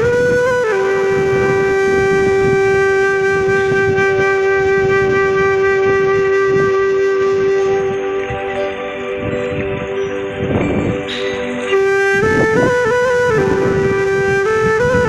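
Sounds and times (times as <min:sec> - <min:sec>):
wind instrument holding long note: 0:00.0 - 0:15.0.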